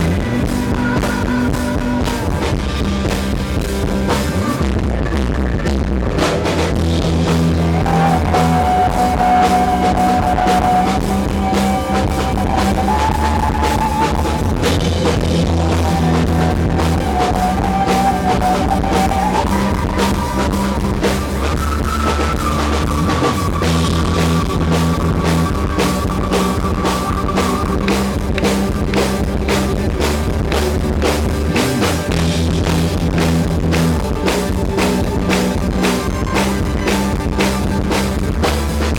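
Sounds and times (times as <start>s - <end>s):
rock band playing live: 0.0s - 38.9s
high lead melody line: 6.8s - 38.9s.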